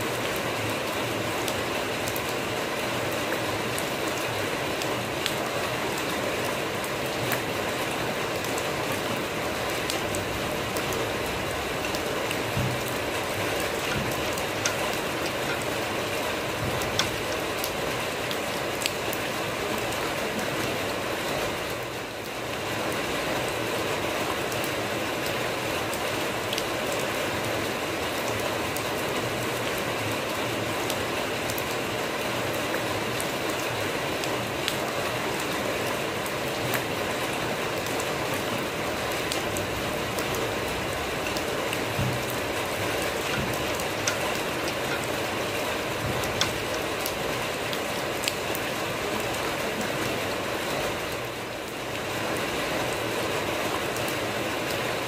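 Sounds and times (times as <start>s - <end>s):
rain on wet ground and puddles: 0.0s - 55.0s.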